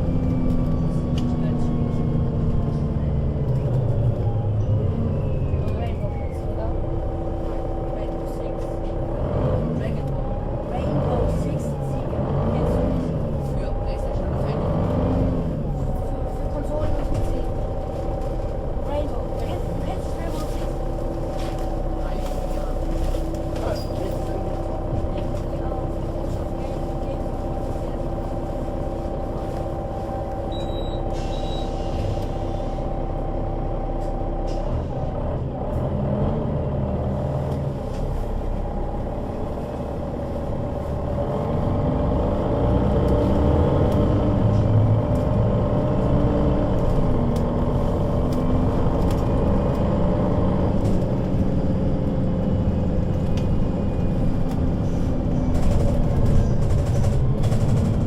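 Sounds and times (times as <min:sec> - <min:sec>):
bus engine: 0:00.0 - 0:58.0.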